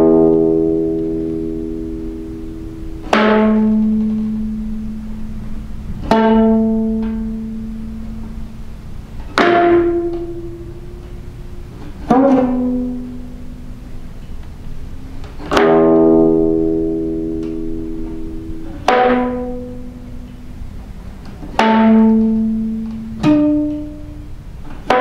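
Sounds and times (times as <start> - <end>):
plucked zither notes ringing: 0.0 - 25.0.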